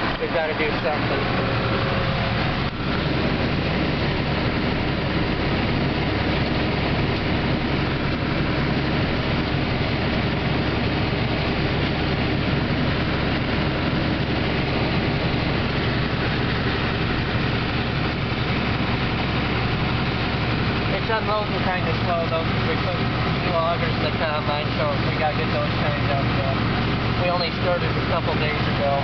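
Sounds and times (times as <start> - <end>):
combine harvester running: 0.0 - 29.0
tractor running: 0.0 - 29.0.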